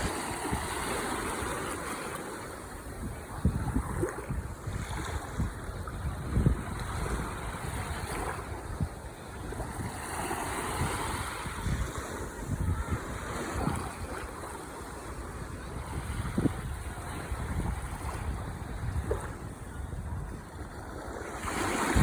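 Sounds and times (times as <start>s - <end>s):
ocean waves breaking: 0.0s - 5.6s, 6.2s - 22.0s.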